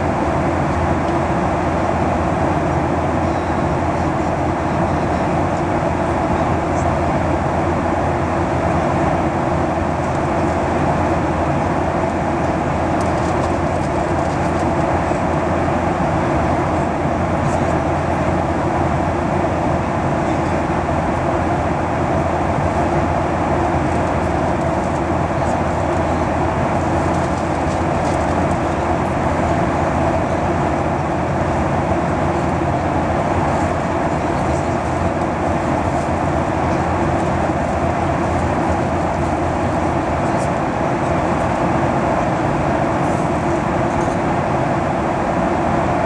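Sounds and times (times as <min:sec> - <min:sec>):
jet engines droning: 0:00.0 - 0:46.0.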